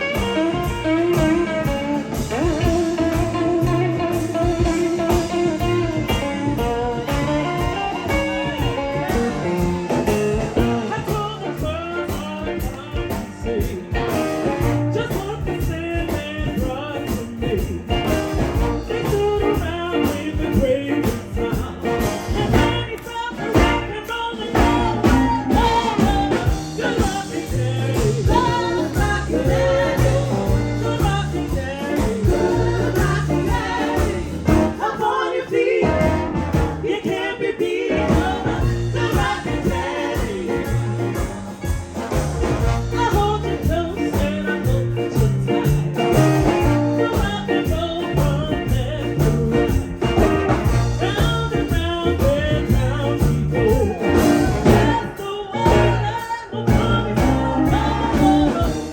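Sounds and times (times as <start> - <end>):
person singing: 0.0 - 41.4, 42.9 - 58.9
electric guitar: 0.0 - 58.9
live blues band: 0.0 - 58.9.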